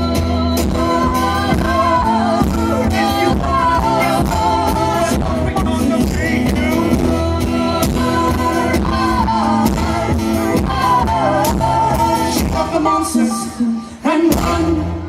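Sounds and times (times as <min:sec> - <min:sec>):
live pop-rock band playing: 0:00.0 - 0:15.0.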